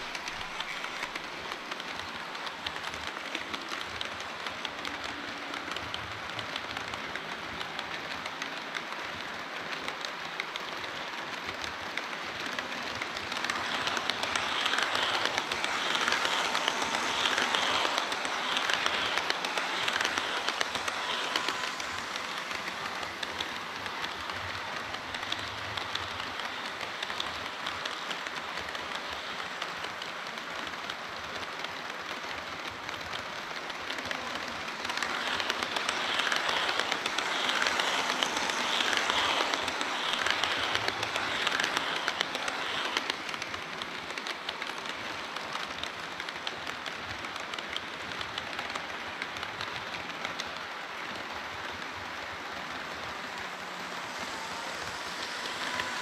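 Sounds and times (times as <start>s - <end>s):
model train wheels rattling on rails: 0.0s - 56.0s.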